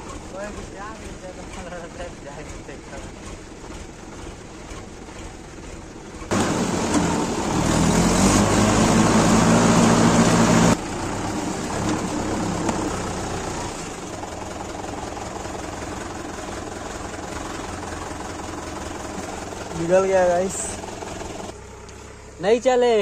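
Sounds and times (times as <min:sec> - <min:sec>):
diesel tractor engine under load: 0:00.0 - 0:23.0.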